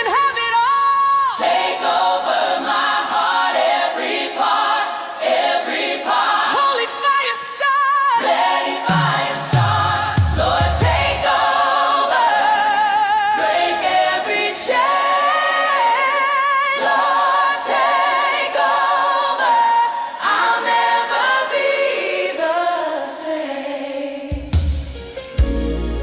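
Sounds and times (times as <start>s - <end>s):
worship song singing in harmony: 0.0s - 26.0s.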